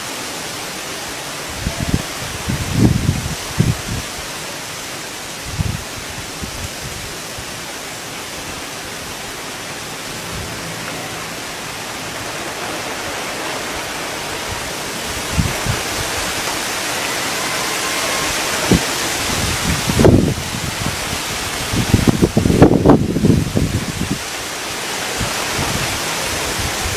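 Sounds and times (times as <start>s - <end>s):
heavy rain hissing: 0.0s - 26.9s
wind: 0.0s - 26.9s
wind gusts on microphone: 1.3s - 26.9s.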